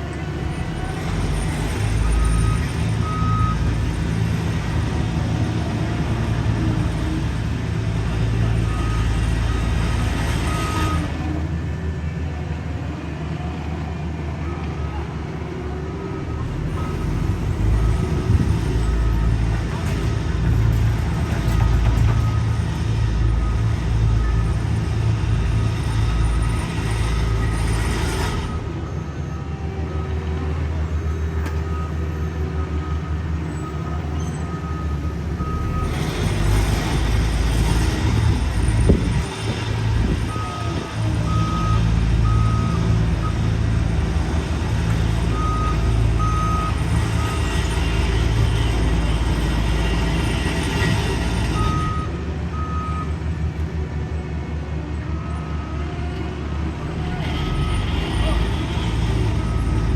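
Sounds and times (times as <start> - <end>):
heavy equipment engines rumbling: 0.0 - 59.9.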